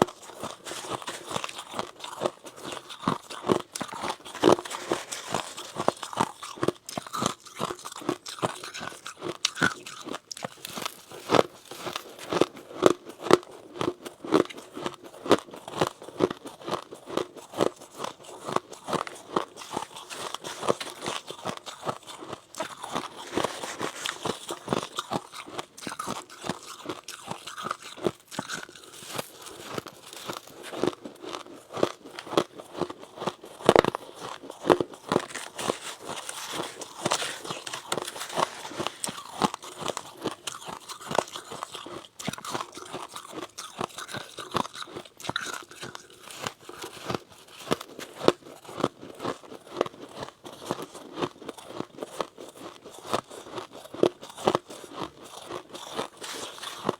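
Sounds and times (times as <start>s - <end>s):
chewing crunchy frost: 0.0s - 56.9s.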